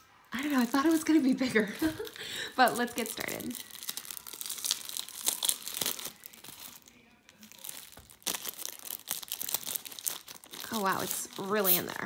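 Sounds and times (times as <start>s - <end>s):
wrapping rustling and crackling: 0.2s - 12.0s.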